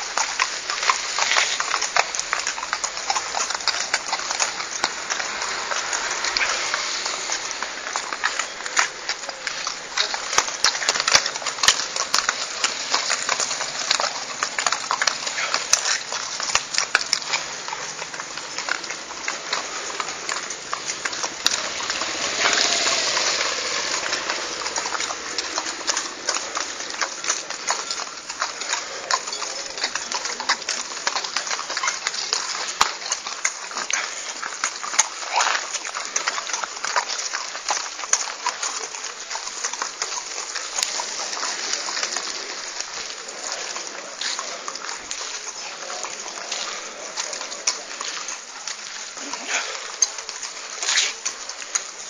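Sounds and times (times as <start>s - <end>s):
hooves clip-clopping on wet pavement: 0.0s - 52.0s.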